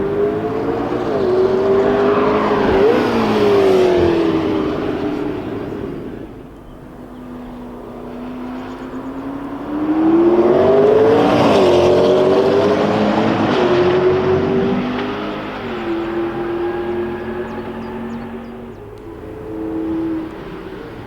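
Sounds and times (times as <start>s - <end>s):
sports car accelerating past: 0.0s - 21.0s.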